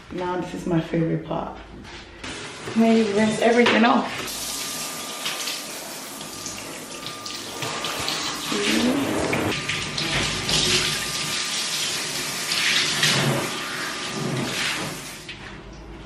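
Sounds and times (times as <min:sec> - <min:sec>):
shower spray splashing and hissing: 0:02.2 - 0:15.4.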